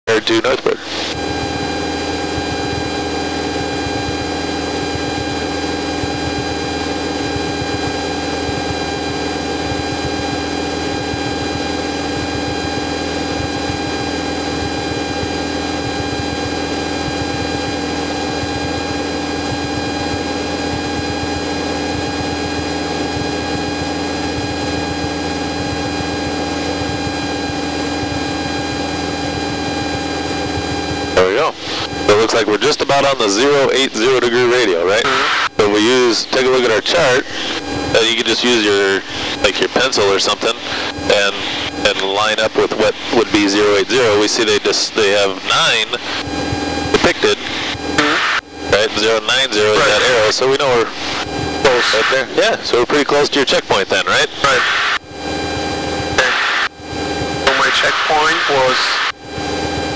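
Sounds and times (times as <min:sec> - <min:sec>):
aircraft engine and propeller droning: 0:00.1 - 0:59.9.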